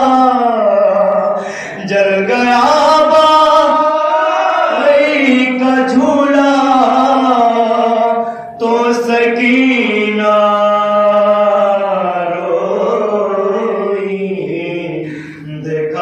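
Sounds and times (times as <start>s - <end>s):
men chanting unaccompanied: 0.0s - 16.0s.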